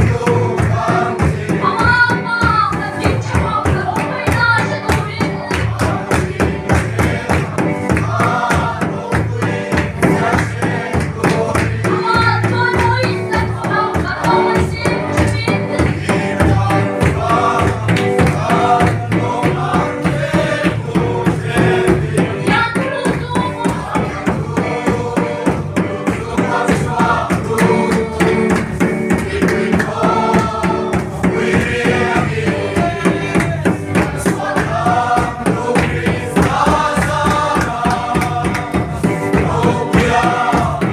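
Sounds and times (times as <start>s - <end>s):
group singing a worship song: 0.0s - 40.9s
steady driving beat: 0.0s - 40.9s.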